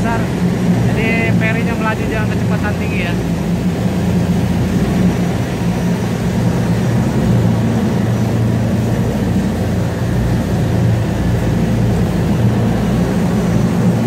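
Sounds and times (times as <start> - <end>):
ferry engines droning: 0.0 - 14.0
rush of wind and water: 0.0 - 14.0.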